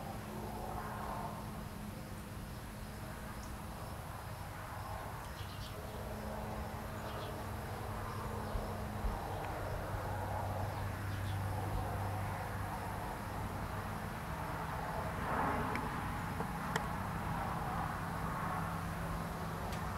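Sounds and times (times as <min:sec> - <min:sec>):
insects buzzing drone: 0:00.0 - 0:19.9.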